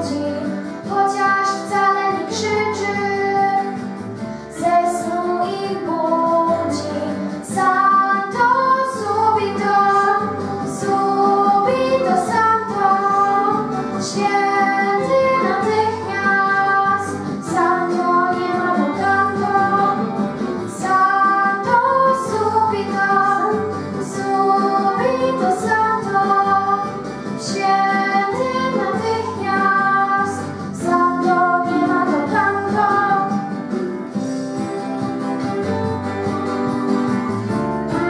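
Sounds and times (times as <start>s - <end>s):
girl singing slow song: 0.0s - 33.6s
acoustic guitar: 0.0s - 38.0s.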